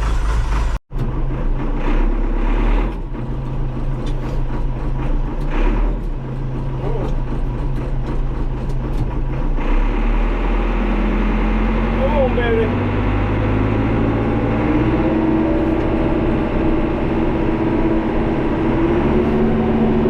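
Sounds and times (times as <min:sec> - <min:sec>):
heavy equipment engine running: 0:00.0 - 0:20.0.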